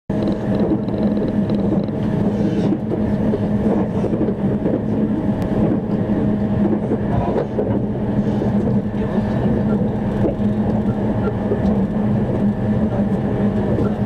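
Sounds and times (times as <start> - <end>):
constant low hum: 0.1 - 14.0
train wheels rumbling on rails: 0.1 - 14.0.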